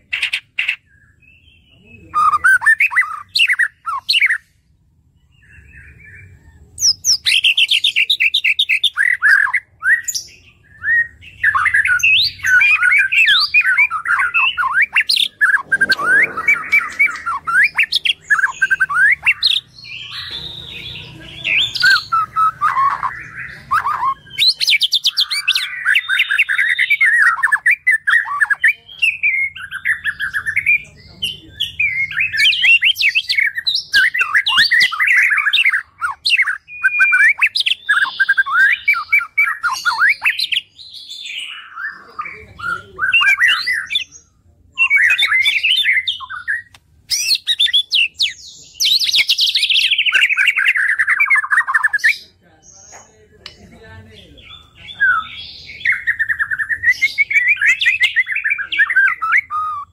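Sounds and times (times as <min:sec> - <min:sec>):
bird singing whistles and trills: 0:05.2 - 0:30.8, 0:31.6 - 0:52.3, 0:54.4 - 0:59.9.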